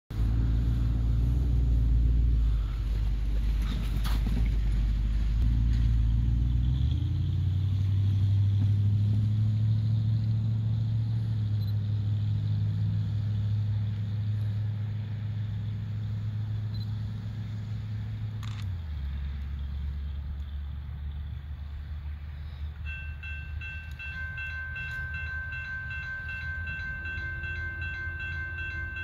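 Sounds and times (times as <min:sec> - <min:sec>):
distant locomotive drone: 0:00.1 - 0:29.0.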